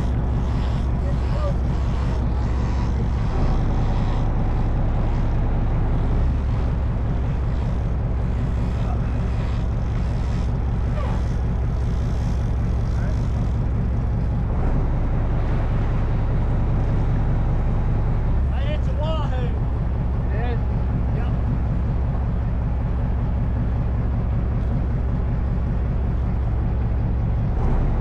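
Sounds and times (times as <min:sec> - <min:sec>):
boat engines droning: 0:00.0 - 0:28.0
wind: 0:00.0 - 0:28.0.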